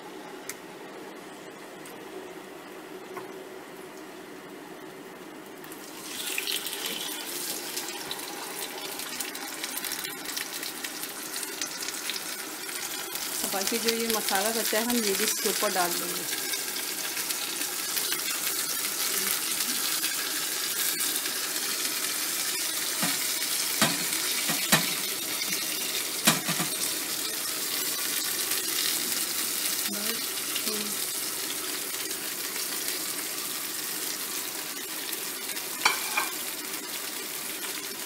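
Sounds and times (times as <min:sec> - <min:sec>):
chicken sizzling in frying pan: 0:05.6 - 0:38.0.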